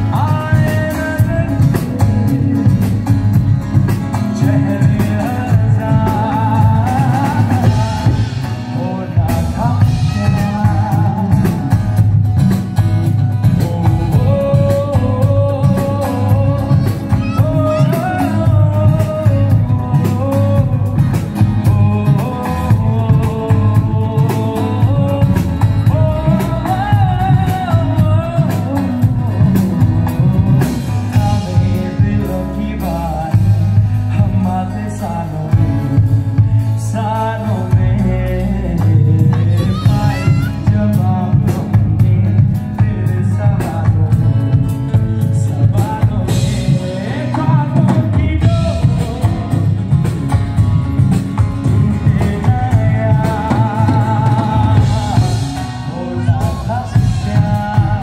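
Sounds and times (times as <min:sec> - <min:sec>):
acoustic guitar: 0:00.0 - 0:58.0
drum kit beat: 0:00.0 - 0:58.0
electric bass: 0:00.0 - 0:58.0
person singing: 0:00.0 - 0:58.0.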